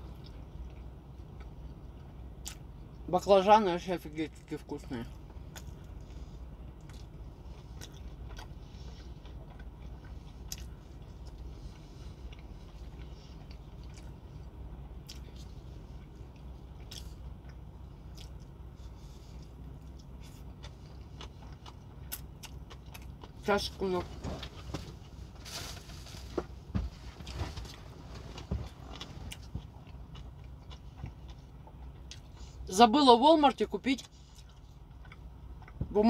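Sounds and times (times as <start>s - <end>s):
person chewing food: 0.0s - 3.1s, 5.1s - 25.2s, 27.2s - 32.7s, 34.0s - 36.0s
steady low hum: 0.0s - 36.0s.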